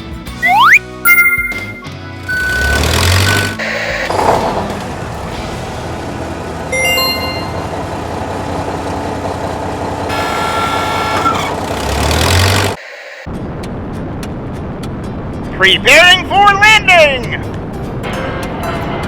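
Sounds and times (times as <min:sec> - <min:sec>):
rushing rocket engine noise: 0:02.2 - 0:19.0.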